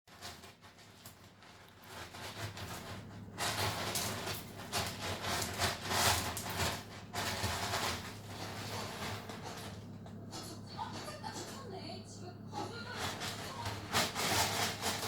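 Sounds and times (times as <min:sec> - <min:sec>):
scratching and rustling noise: 0:00.1 - 0:11.7, 0:12.6 - 0:15.0.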